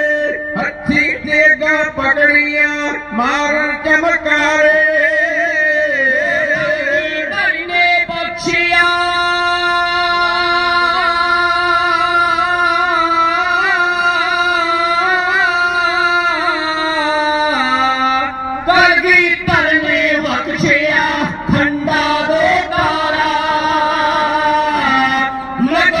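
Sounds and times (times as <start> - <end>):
devotional singing over loudspeaker: 0.0 - 26.0.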